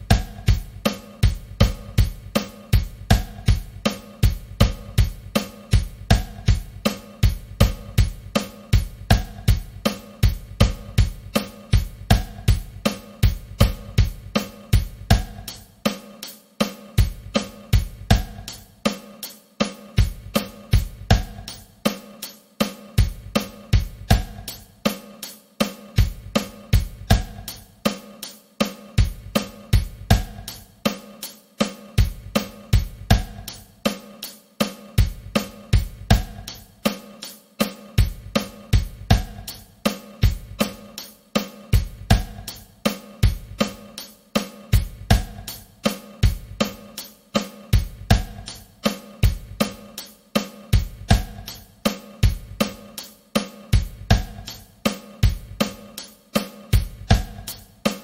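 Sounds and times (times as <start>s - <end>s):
drum kit playing a groove: 0.0s - 58.0s.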